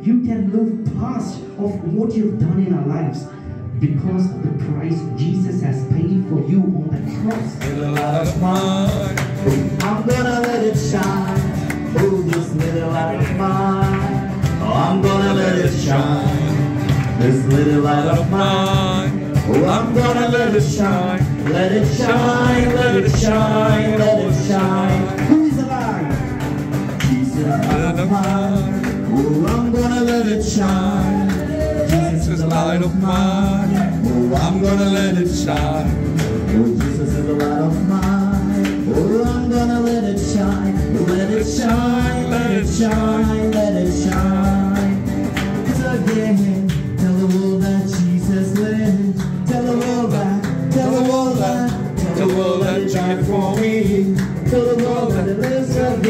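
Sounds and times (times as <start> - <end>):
acoustic guitar: 0.0 - 56.0
men singing: 7.0 - 56.0.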